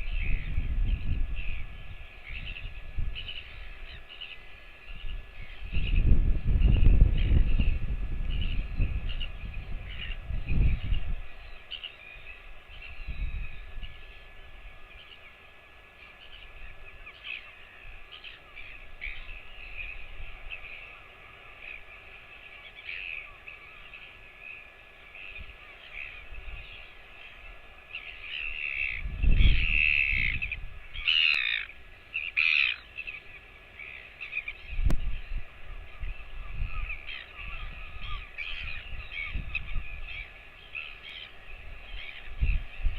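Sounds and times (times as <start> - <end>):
bird calls: 0.0 - 42.9
harsh bird calls: 0.0 - 42.9.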